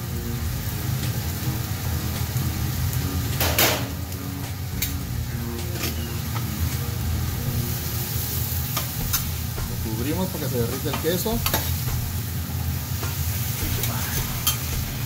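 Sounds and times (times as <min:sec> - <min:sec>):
background music: 0:00.0 - 0:15.0
food sizzling on griddle: 0:00.0 - 0:15.0.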